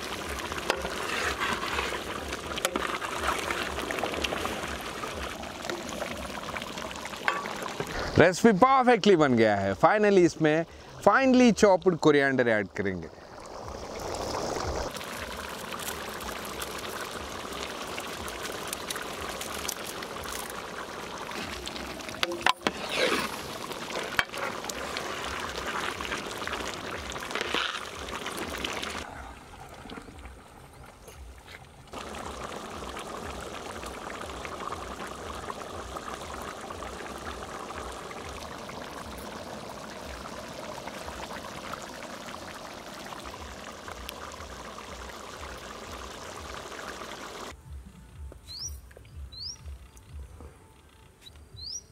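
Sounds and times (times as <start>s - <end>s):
thick gravy boiling and bubbling: 0.0s - 47.6s.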